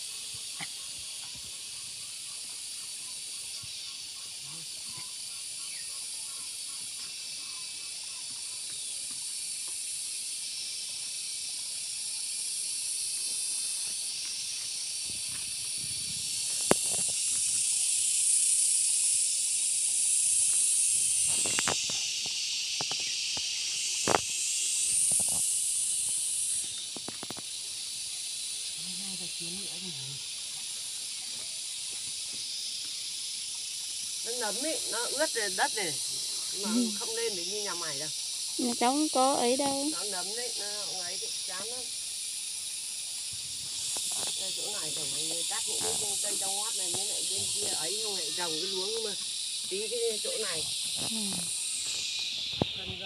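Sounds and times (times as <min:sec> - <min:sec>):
steady high hiss: 0:00.0 - 0:53.0.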